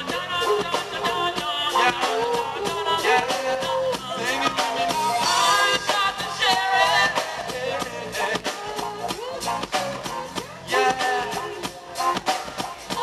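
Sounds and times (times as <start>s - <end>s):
bass guitar: 0.0s - 13.0s
drum kit: 0.0s - 13.0s
electric guitar: 0.0s - 13.0s
person singing: 0.0s - 13.0s.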